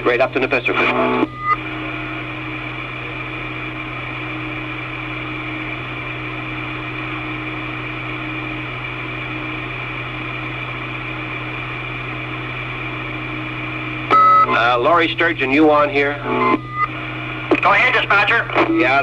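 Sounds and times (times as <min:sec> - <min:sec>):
faint steady tones: 0:00.0 - 0:19.0
radio static hiss and hum: 0:00.0 - 0:19.0.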